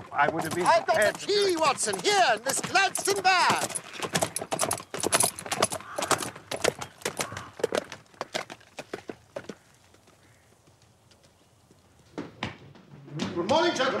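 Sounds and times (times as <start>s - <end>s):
horse hooves clopping: 0.0s - 14.0s.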